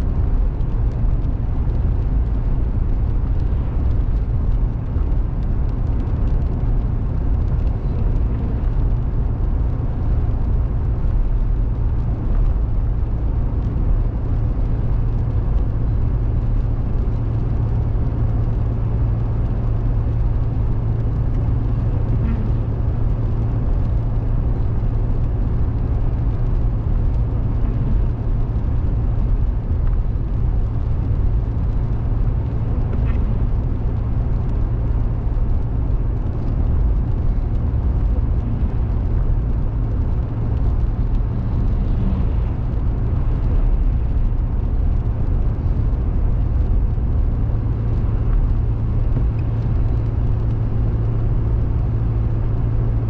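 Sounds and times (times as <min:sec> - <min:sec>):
car engine and tyres drone: 0:00.0 - 0:53.0
low hum: 0:00.0 - 0:53.0.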